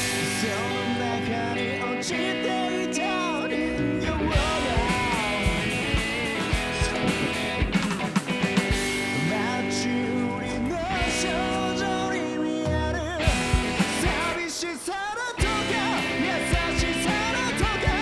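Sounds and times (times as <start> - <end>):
man singing: 0.0 - 7.9, 8.6 - 18.0
drums: 0.0 - 18.0
electric guitar: 0.0 - 18.0.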